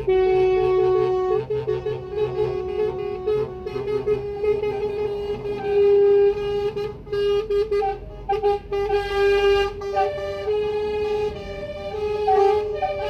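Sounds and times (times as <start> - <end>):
truck air horns blasting: 0.0 - 13.0.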